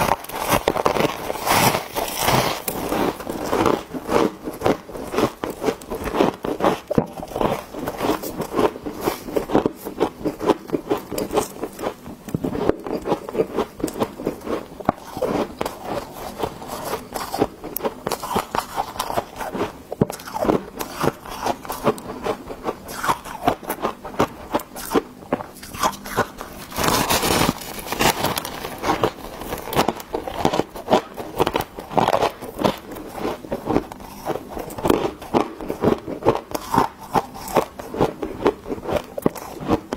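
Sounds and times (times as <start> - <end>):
crunching frozen frost: 0.0 - 25.0, 25.6 - 39.9.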